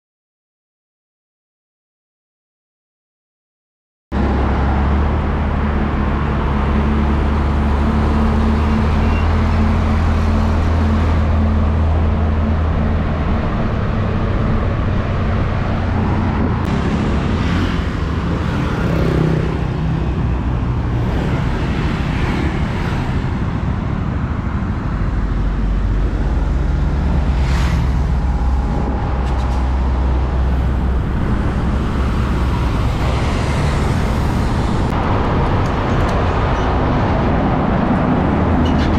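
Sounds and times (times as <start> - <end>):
trucks and cars passing: 4.1 - 38.9.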